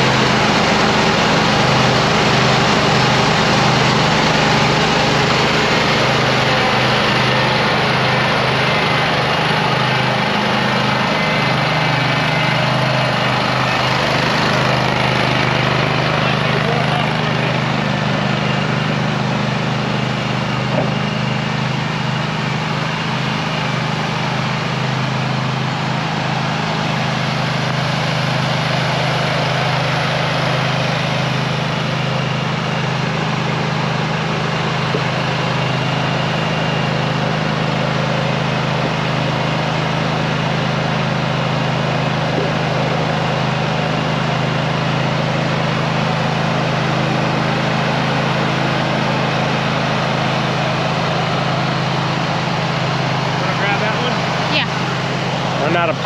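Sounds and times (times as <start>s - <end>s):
engine droning steadily: 0.0s - 56.0s.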